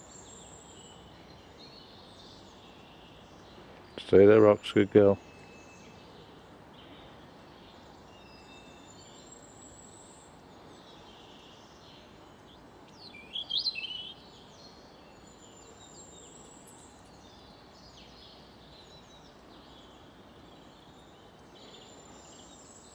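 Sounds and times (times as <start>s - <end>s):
outdoor background hiss: 0.0s - 22.9s
wild birds chirping and singing: 0.0s - 22.9s.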